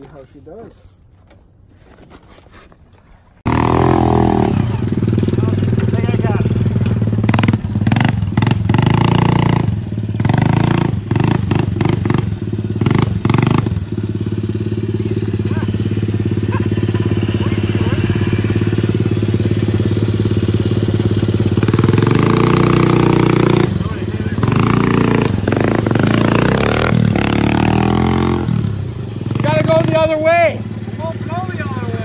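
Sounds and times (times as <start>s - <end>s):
quad engine running: 3.4s - 32.0s
sharp engine knocks and clatter: 4.3s - 32.0s.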